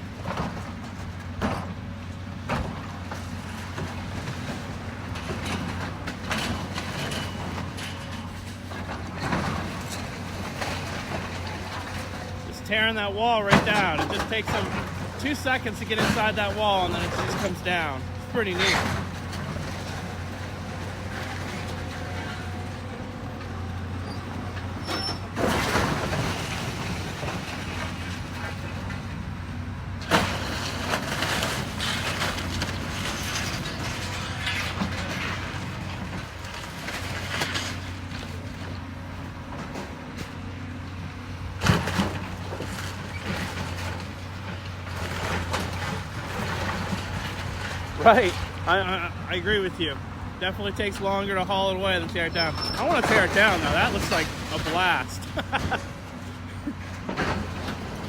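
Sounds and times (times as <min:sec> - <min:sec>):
demolition machine engine running: 0:00.0 - 0:58.0
falling debris crashing: 0:02.6 - 0:23.2, 0:23.8 - 0:29.1, 0:30.0 - 0:38.7, 0:41.6 - 0:58.0.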